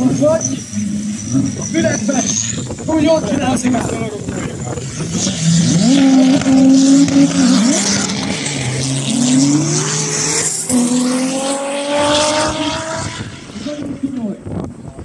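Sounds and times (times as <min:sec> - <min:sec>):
drag racing cars accelerating: 0:00.0 - 0:15.0.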